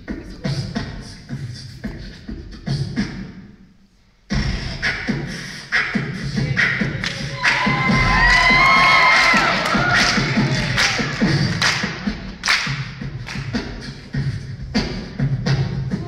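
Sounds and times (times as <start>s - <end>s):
beatboxing into a microphone: 0.0s - 3.7s, 4.3s - 16.0s.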